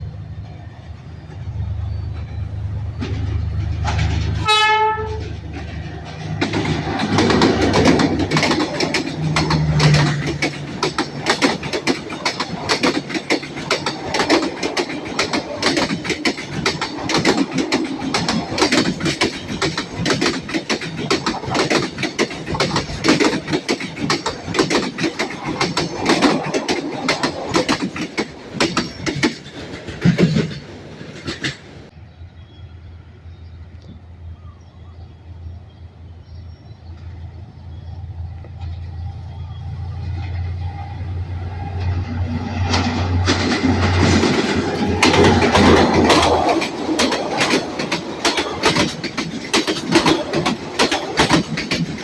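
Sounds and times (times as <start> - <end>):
train wheels clattering over rails: 0.0 - 32.0, 36.2 - 52.0.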